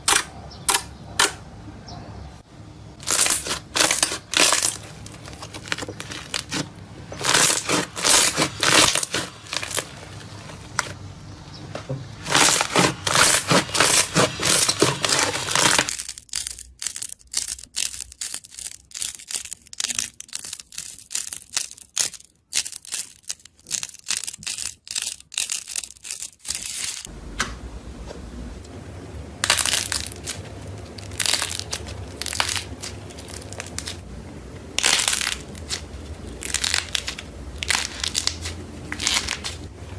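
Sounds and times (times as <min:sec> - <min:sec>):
crunchy material crushed by hand: 0:03.0 - 0:11.0, 0:12.2 - 0:27.1, 0:29.4 - 0:34.1, 0:34.7 - 0:39.7.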